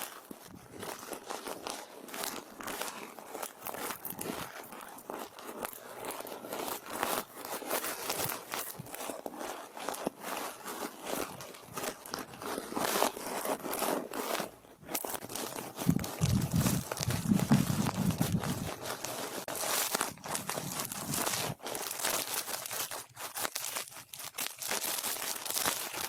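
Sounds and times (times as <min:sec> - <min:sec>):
brush scratching microphone: 0:00.0 - 0:26.0.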